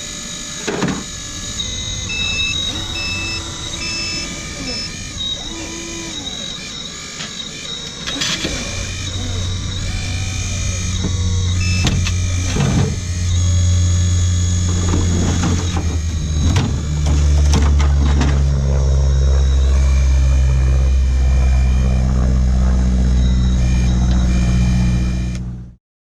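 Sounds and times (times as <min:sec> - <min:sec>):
toy excavator motor whining: 0:00.0 - 0:25.5.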